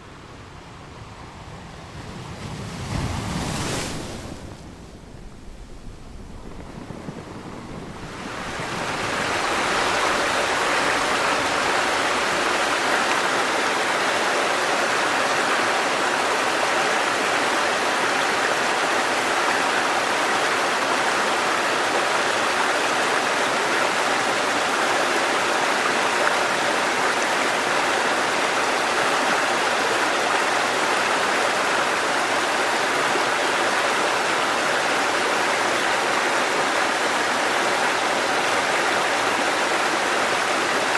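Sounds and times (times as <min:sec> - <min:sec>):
stream rushing over rocks: 0:07.7 - 0:40.9.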